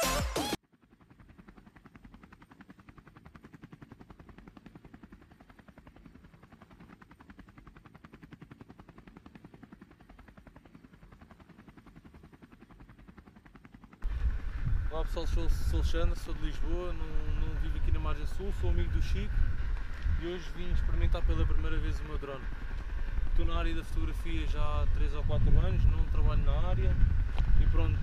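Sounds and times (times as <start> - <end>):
rotor blades throbbing: 0.6 - 28.0.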